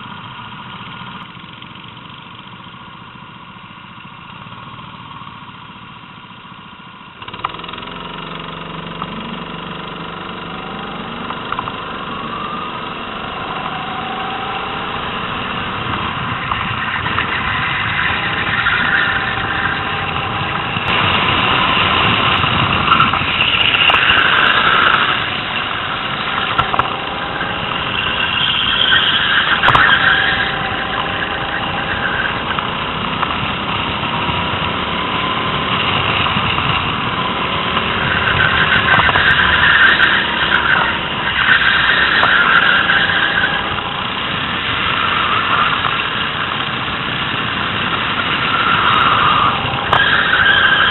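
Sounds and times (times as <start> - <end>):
go-kart engine revving: 0.0 - 50.9.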